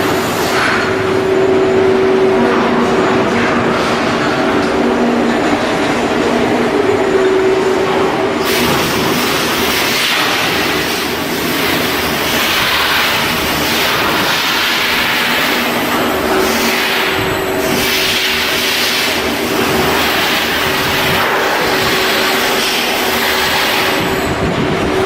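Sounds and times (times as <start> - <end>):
industrial machinery humming and hissing: 0.0 - 25.0.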